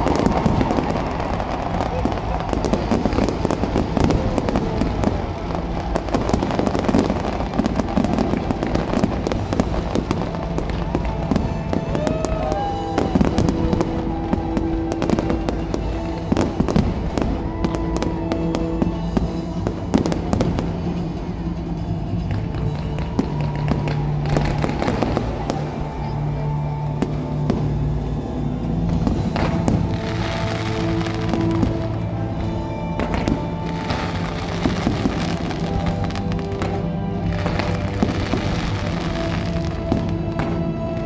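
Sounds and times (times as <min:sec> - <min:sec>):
fireworks bangs and crackles: 0:00.0 - 0:41.0
stadium music: 0:00.0 - 0:41.0.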